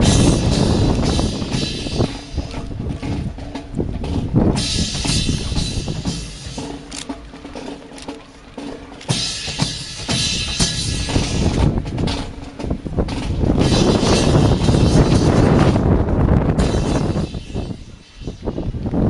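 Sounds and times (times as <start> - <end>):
wind on microphone: 0.0 - 7.4, 9.5 - 19.0
sharp drum-like hits: 0.0 - 18.7.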